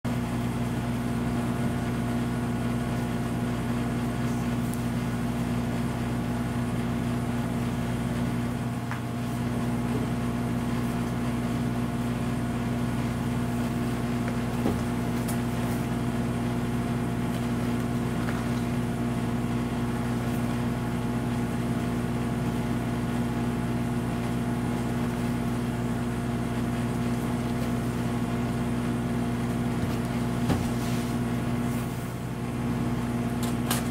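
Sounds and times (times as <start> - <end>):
low mechanical hum: 0.1 - 33.9.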